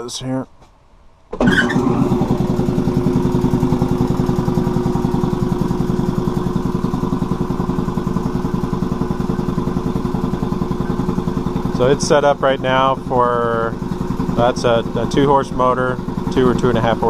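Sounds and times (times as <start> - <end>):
air compressor pumping: 1.4 - 17.0.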